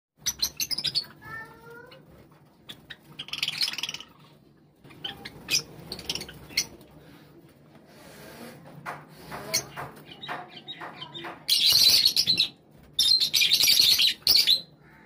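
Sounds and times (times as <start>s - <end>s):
sparrows chirping and trilling: 0.2s - 15.0s.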